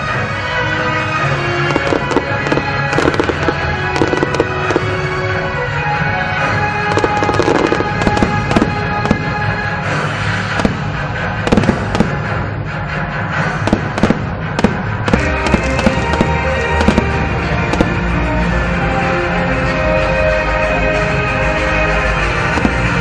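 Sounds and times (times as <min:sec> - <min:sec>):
fireworks bangs and crackles: 0:00.0 - 0:23.0
loud music: 0:00.0 - 0:23.0.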